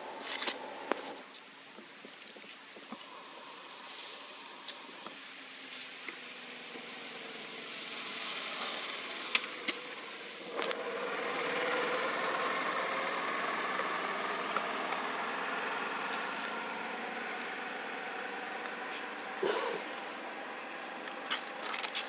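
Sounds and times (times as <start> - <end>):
engine hum: 0.0 - 22.0.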